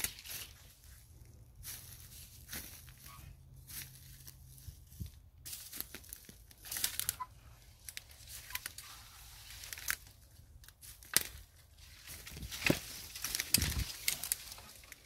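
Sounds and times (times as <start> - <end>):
dry leaves crunching underfoot: 0.0 - 15.0.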